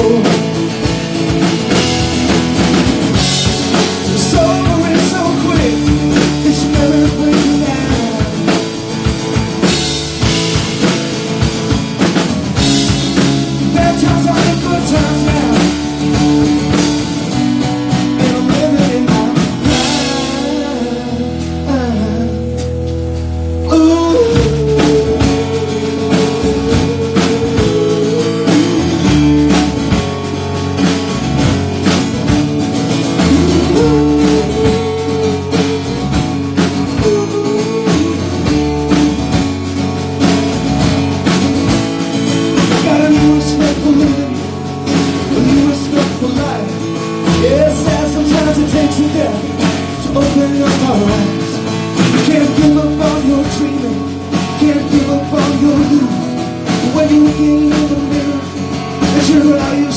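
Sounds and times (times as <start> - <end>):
man singing: 0.0 - 1.5, 3.2 - 11.4, 12.1 - 30.5, 32.8 - 39.5, 42.5 - 59.9
acoustic guitar: 0.0 - 59.9
drum kit: 0.0 - 59.9.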